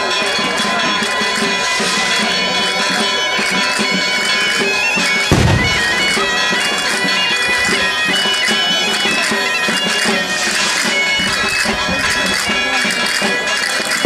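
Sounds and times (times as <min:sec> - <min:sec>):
bagpipe melody over drone: 0:00.0 - 0:14.0.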